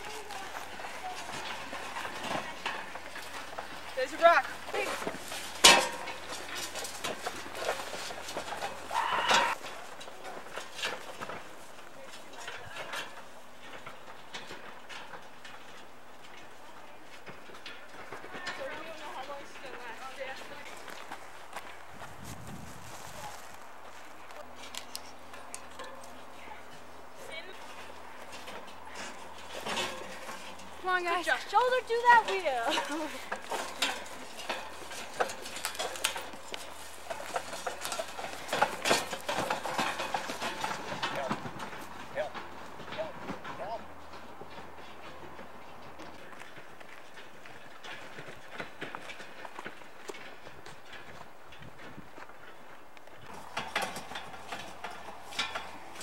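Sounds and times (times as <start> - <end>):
footsteps: 0.0 - 56.0
handcart wheels clattering: 0.0 - 56.0
hooves on rocky trail: 0.0 - 56.0.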